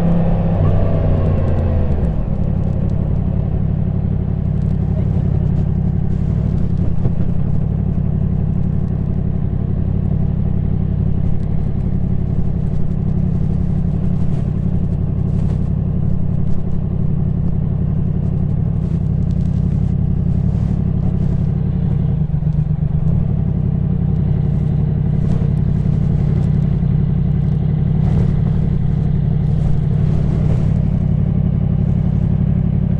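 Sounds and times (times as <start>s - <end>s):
motorcycle engine cruising: 0.0s - 32.9s.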